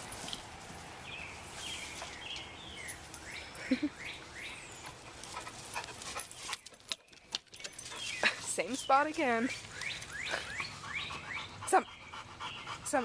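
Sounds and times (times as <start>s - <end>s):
outdoor background hiss: 0.0s - 13.0s
small birds chirping: 1.0s - 13.0s.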